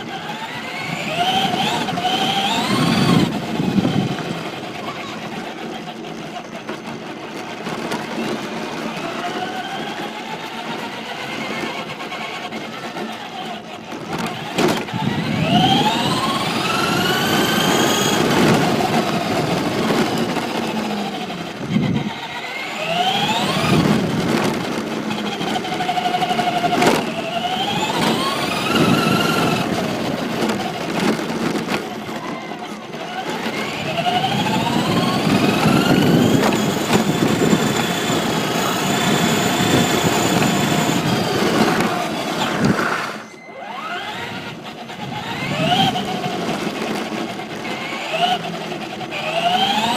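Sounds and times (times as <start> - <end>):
electric motor whining: 0.0 - 49.9
tyre noise on pavement: 0.0 - 49.9.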